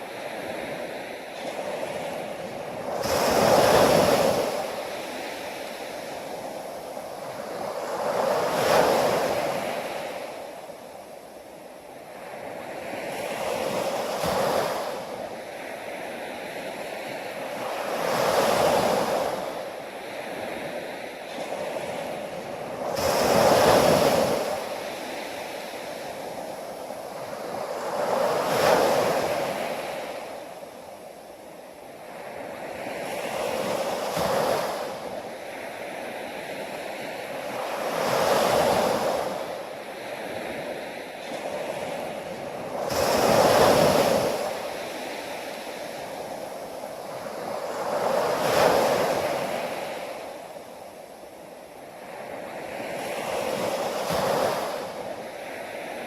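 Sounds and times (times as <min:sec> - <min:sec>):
ocean waves washing in: 0:00.0 - 0:56.0.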